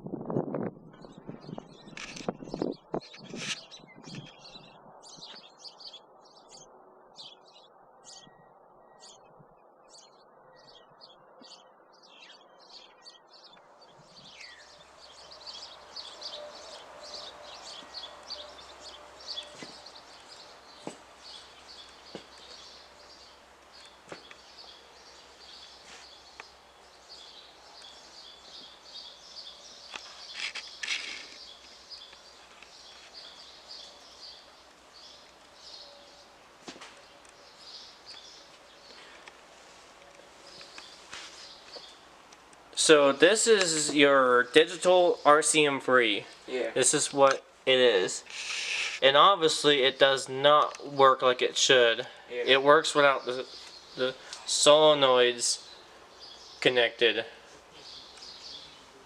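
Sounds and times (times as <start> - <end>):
faint outdoor background noise: 0.0 - 59.0
small birds chirping: 0.9 - 59.0.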